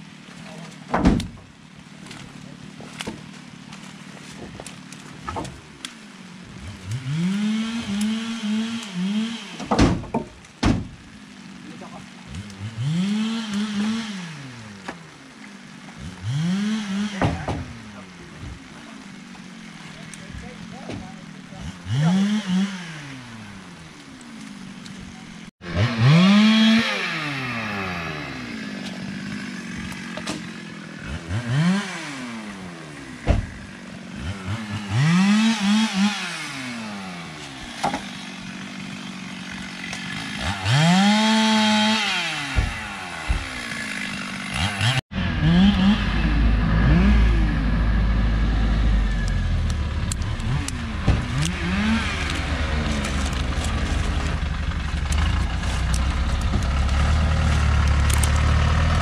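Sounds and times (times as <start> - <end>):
truck engine rumbling: 0.0 - 59.0
chainsaw revving: 5.4 - 9.7, 11.5 - 59.0.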